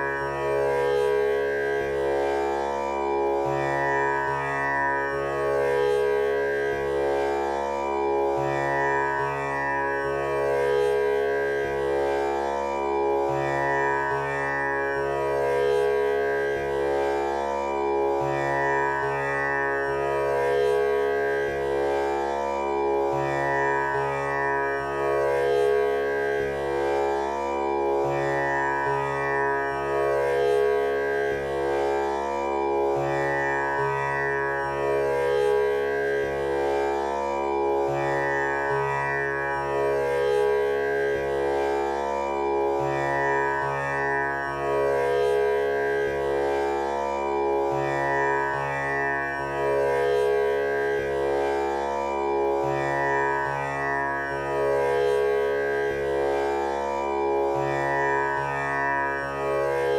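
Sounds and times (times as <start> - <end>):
tanpura drone plucked strings: 0.0 - 59.9.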